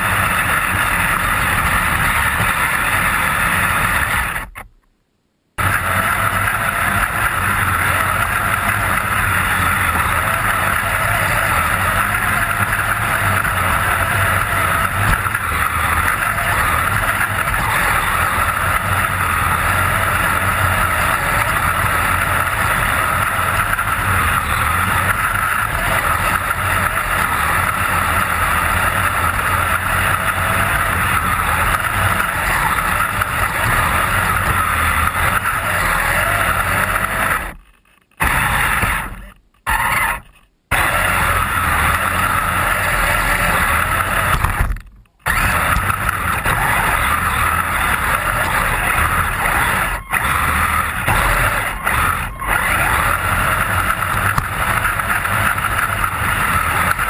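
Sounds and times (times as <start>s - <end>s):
electric motors and gears running: 0.0s - 4.7s, 5.6s - 57.0s.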